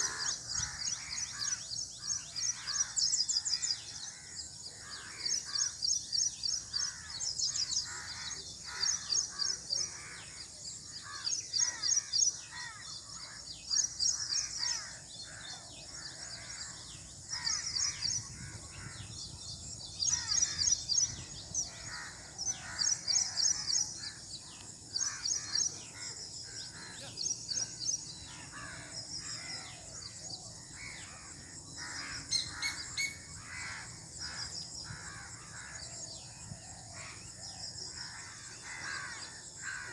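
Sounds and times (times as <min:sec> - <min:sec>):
harsh low bird calls: 0:00.0 - 0:13.1, 0:13.7 - 0:39.9
birds chirping: 0:00.0 - 0:39.9
faint outdoor background: 0:00.0 - 0:39.9.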